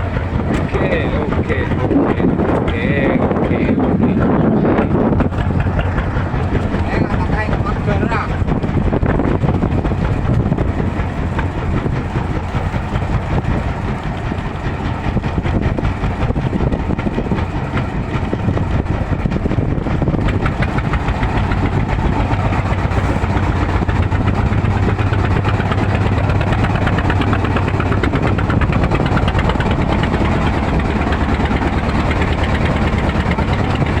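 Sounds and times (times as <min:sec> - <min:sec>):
boat engine humming: 0:00.0 - 0:34.0.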